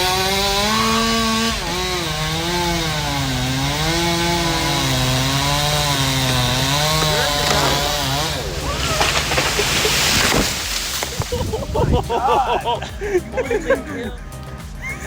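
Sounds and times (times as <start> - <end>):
chainsaw cutting: 0.0 - 15.0.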